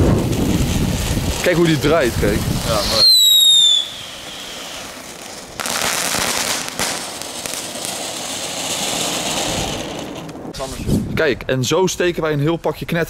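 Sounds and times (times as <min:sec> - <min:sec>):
firework fountains hissing: 0:00.0 - 0:10.7
ground spinner firework whistling: 0:00.0 - 0:10.9.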